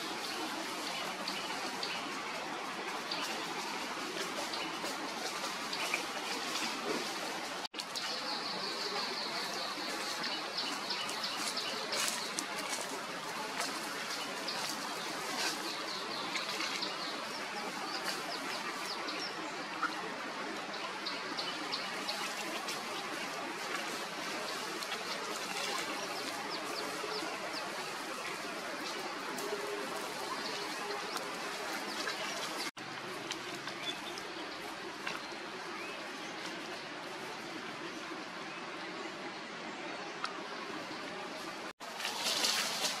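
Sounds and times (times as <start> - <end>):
steady outdoor hiss: 0.0 - 43.0.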